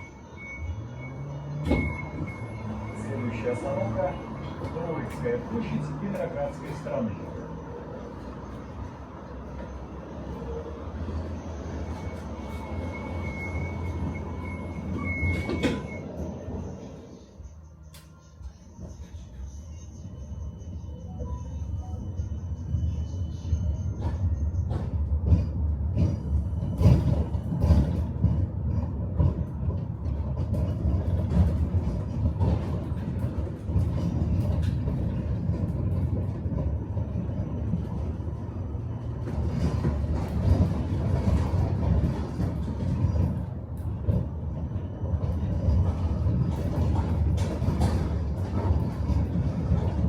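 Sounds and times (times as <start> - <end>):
tram wheels rumbling on rails: 0.0 - 50.0.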